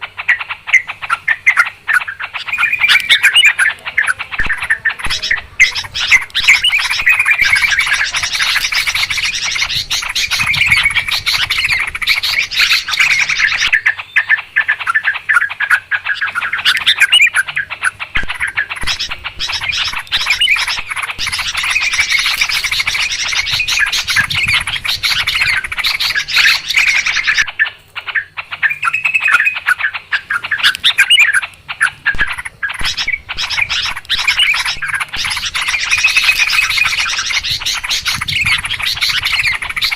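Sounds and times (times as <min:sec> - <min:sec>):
bulbuls chirping in a flock: 0:00.0 - 0:39.9.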